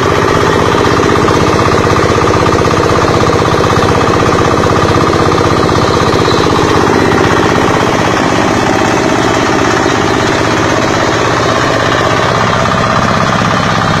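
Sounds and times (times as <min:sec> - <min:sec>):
grass chopper machine rattling: 0:00.0 - 0:14.0.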